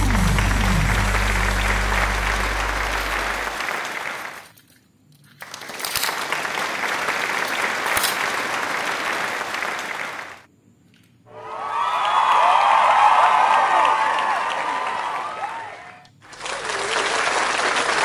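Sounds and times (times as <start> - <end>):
crowd applause: 0.0 - 4.5, 5.4 - 10.5, 11.4 - 18.0.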